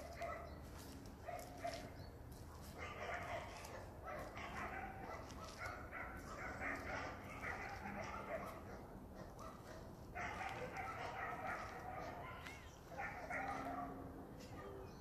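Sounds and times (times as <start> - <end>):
dogs barking and yipping: 0.0 - 15.0.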